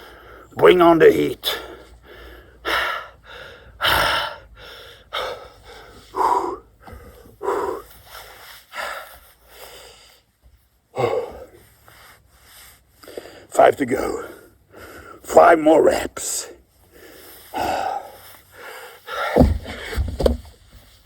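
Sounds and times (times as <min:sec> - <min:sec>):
man breathing hard and gasping: 0:00.0 - 0:00.5, 0:01.5 - 0:13.5, 0:14.2 - 0:15.3, 0:16.6 - 0:20.3.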